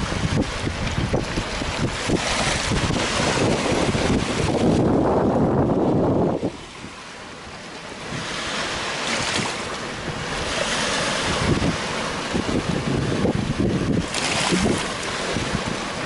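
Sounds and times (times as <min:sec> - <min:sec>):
wind buffeting microphone: 0:00.0 - 0:07.1, 0:08.0 - 0:16.0
waves washing over stony shore: 0:00.0 - 0:16.0.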